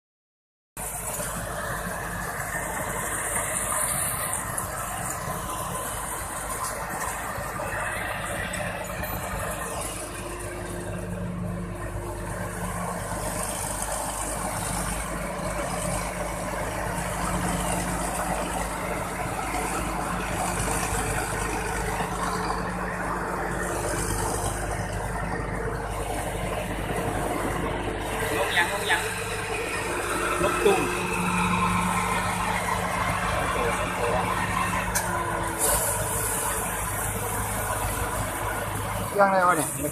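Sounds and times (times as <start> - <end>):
diesel engine humming: 0.8 - 39.9.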